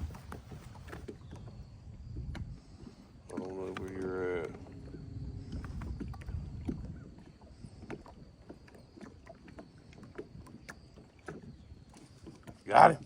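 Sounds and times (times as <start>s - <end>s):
low rumble of wind and water: 0.0s - 13.0s.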